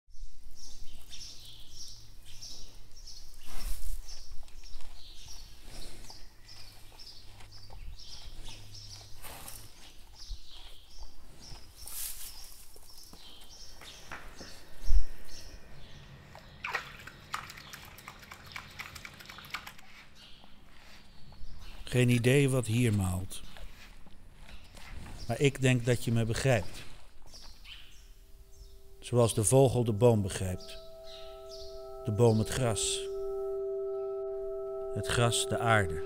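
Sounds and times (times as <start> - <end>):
small birds chirping: 0.1 - 36.0.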